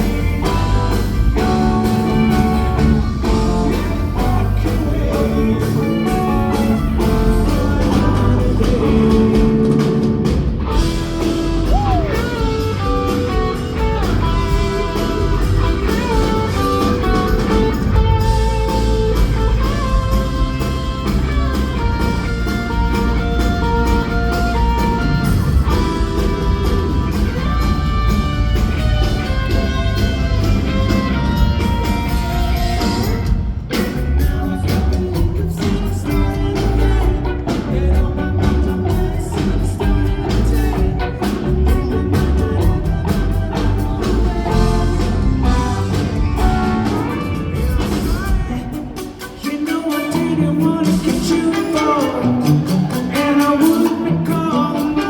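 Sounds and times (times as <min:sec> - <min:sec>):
electric guitar lines: 0:00.0 - 0:49.4
rock band playing live: 0:00.0 - 0:55.0.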